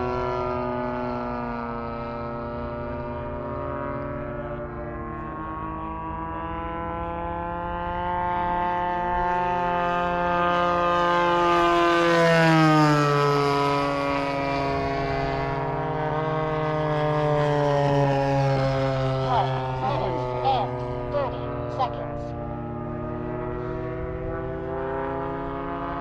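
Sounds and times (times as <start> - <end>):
model plane engines droning: 0.0 - 26.0.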